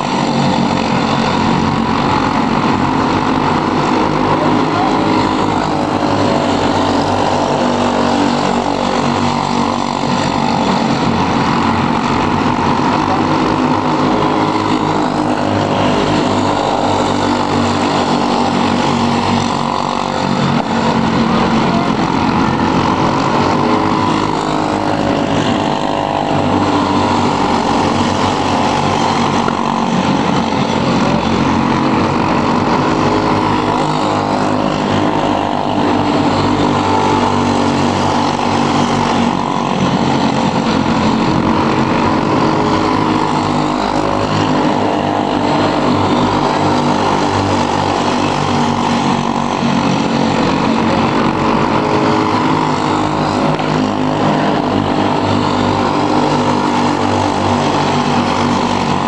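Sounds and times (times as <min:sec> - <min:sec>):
kart engines racing: 0:00.0 - 0:59.0.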